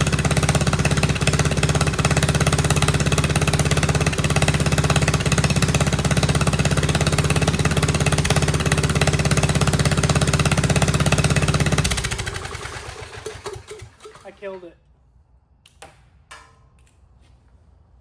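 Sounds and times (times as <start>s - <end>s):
gasoline engine running and winding down: 0.0s - 14.6s.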